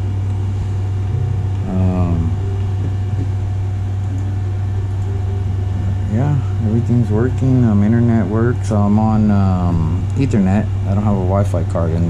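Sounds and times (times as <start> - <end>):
computer cooling fans humming: 0.0 - 12.0.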